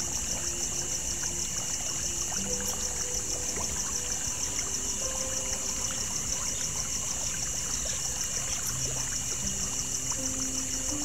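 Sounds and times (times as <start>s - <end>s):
stream trickling: 0.0s - 11.0s.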